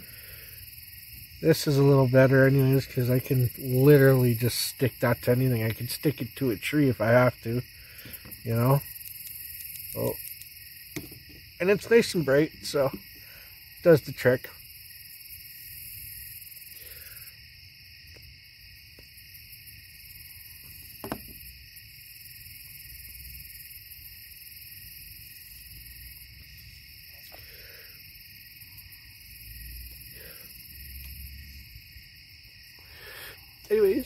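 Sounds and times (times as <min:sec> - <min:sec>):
insects and frogs trilling: 0:00.0 - 0:34.0.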